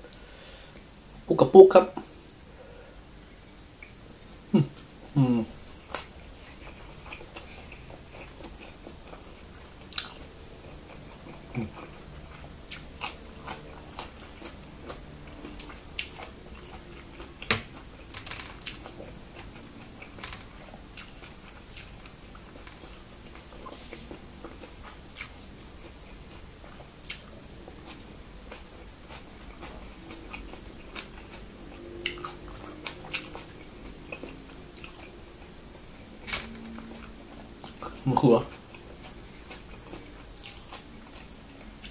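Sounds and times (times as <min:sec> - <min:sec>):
chewing food with crunches: 0:04.8 - 0:41.9.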